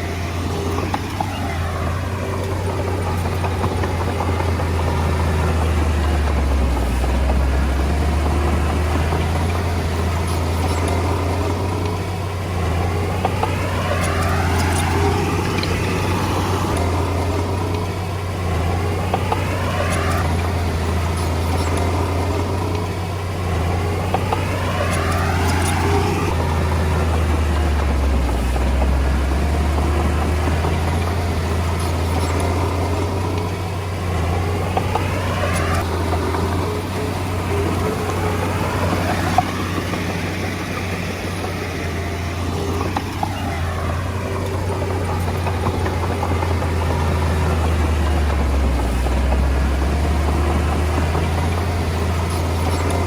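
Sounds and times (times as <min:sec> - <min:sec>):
bulldozer diesel engine running: 0:00.0 - 0:53.0
whine sweeping up and down: 0:00.0 - 0:53.0.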